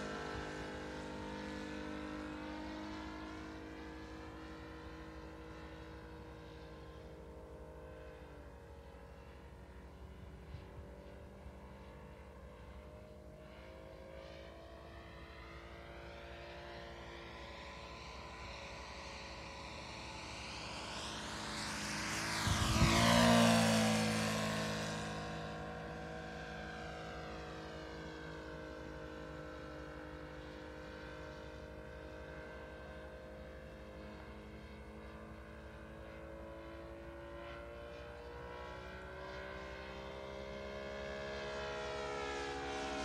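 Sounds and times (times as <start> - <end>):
model plane engine flyby: 0.0 - 43.0.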